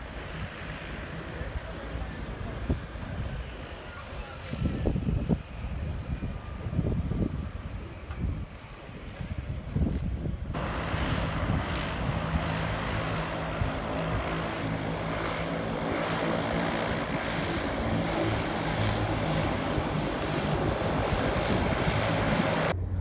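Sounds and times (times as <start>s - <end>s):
floatplane engine and propeller: 0.0s - 23.0s.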